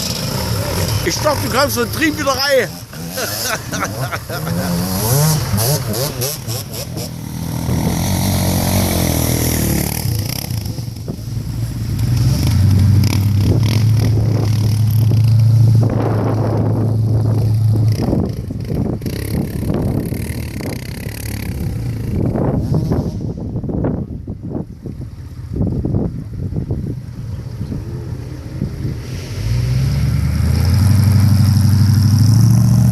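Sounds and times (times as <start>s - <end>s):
diesel engine revving: 0.0s - 23.6s, 25.0s - 32.9s.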